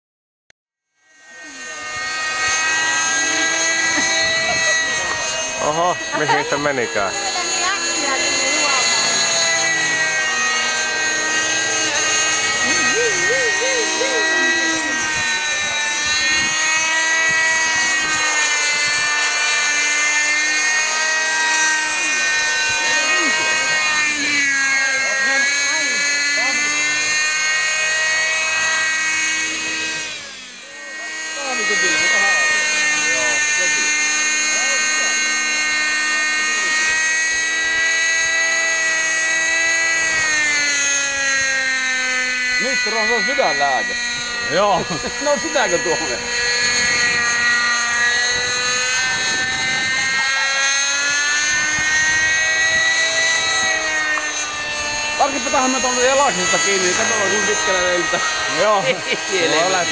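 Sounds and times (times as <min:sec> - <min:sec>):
rc helicopter engine whine: 0:00.8 - 0:59.9.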